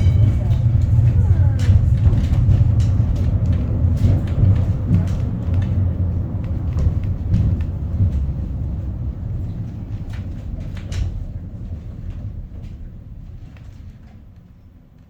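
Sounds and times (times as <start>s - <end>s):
cable car rumbling on rails: 0.0s - 15.0s.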